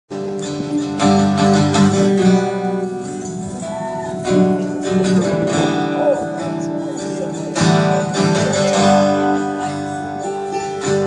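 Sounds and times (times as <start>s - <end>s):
acoustic guitar strumming: 0.1s - 11.0s.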